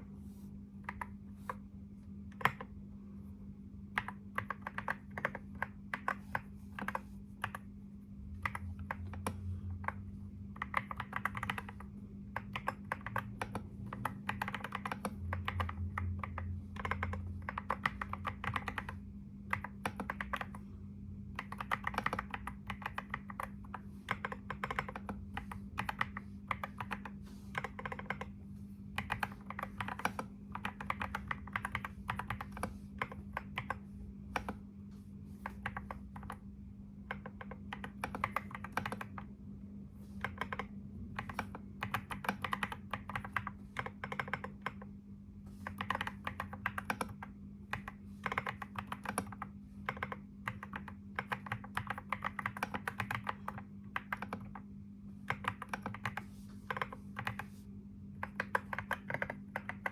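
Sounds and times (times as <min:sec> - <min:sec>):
steady low hum: 0:00.0 - 0:59.9
typing on computer keyboard: 0:00.8 - 0:01.6, 0:02.3 - 0:02.8, 0:03.9 - 0:07.7, 0:08.4 - 0:20.7, 0:21.3 - 0:34.6, 0:35.4 - 0:39.4, 0:40.1 - 0:57.6, 0:58.2 - 0:59.9.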